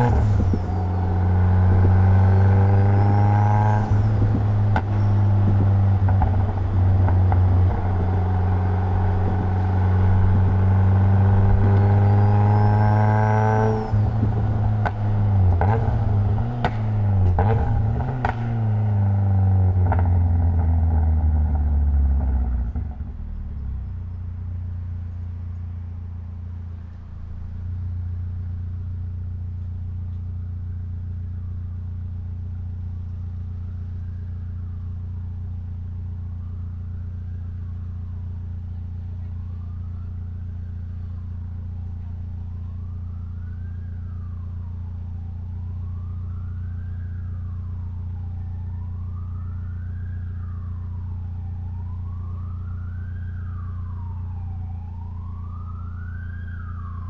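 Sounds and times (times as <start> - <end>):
car engine accelerating: 0.0 - 44.4, 45.7 - 57.0.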